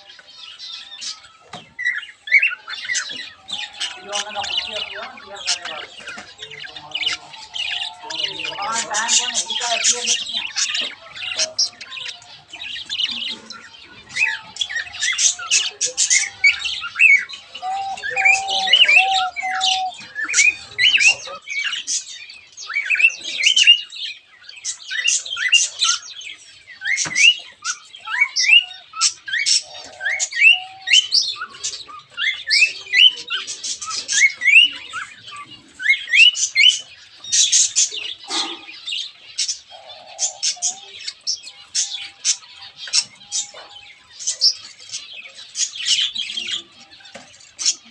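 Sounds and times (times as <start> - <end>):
small birds chirping and squawking: 0.0 - 47.9.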